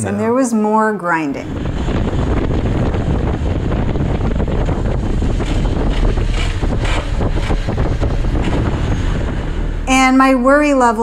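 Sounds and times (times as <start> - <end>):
wind noise on microphone: 1.3 - 11.0
motorcycle riding: 1.5 - 11.0
harsh grinding scrape: 1.6 - 11.0.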